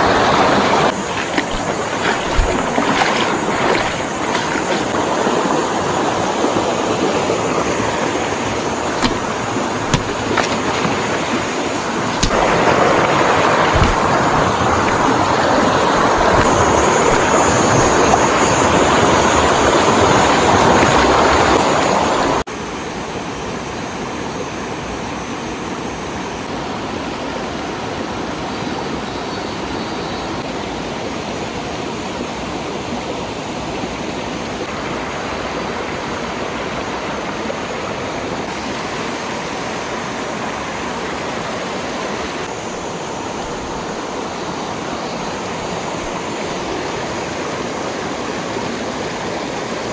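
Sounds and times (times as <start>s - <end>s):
stream rushing over stones: 0.0s - 22.4s, 30.4s - 49.9s.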